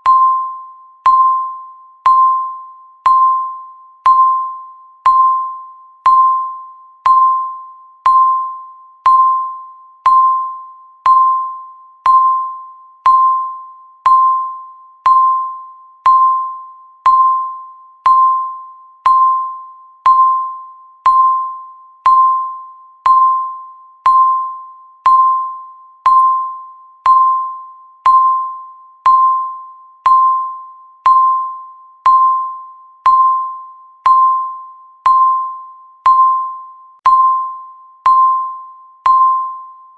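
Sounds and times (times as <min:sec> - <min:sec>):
bell-like timer beep: 0:00.0 - 0:39.9.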